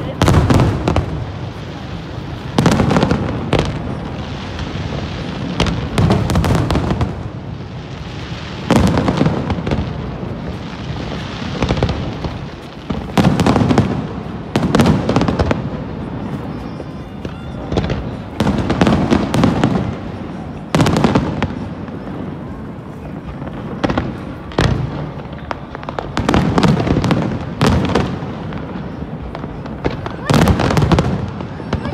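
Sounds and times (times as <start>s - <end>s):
fireworks booming: 0.0s - 31.9s
fireworks crackling: 0.0s - 31.9s.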